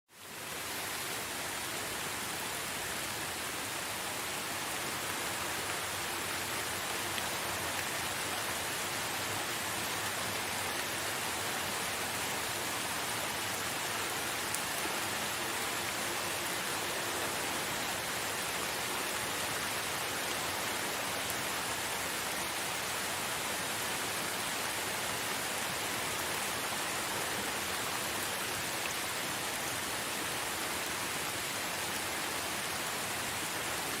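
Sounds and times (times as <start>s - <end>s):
steady rain falling: 0.1s - 34.0s.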